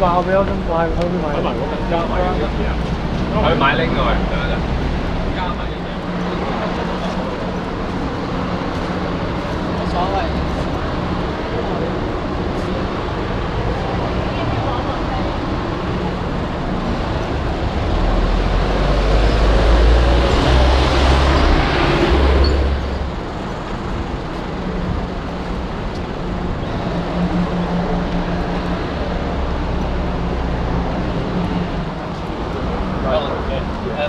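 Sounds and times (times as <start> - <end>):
city street traffic: 0.0 - 34.0
heavy vehicle engine rumble: 0.0 - 34.0.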